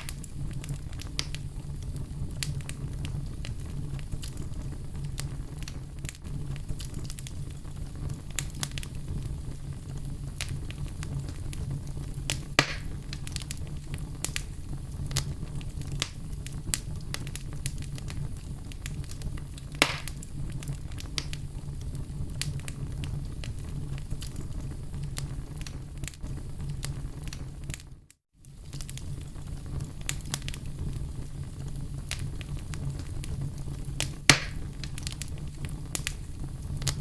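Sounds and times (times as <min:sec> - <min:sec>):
fire crackling: 0:00.0 - 0:37.0
fire low rumble: 0:00.0 - 0:37.0
loud fire pops: 0:00.0 - 0:37.0.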